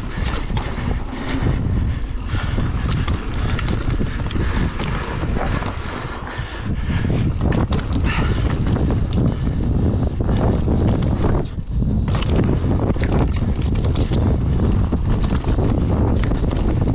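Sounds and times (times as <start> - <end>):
bike clicking and clattering: 0.0 - 16.9
bike tyres rumbling on dirt: 0.0 - 16.9
wind buffeting microphone: 0.0 - 16.9.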